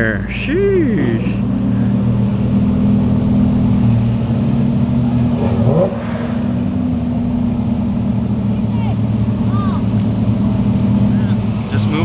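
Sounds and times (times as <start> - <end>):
car engine idling: 0.0 - 12.0
engine revving: 1.3 - 12.0.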